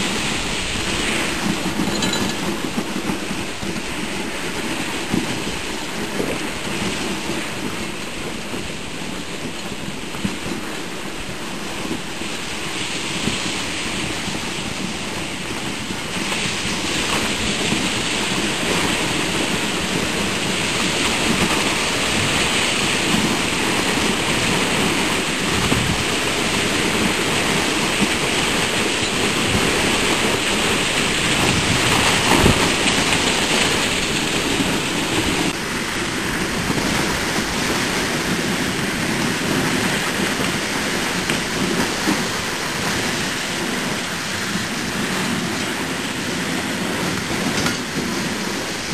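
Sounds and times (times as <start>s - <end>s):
sled runners rushing on snow: 0.0s - 48.9s
wind on microphone: 0.0s - 48.9s.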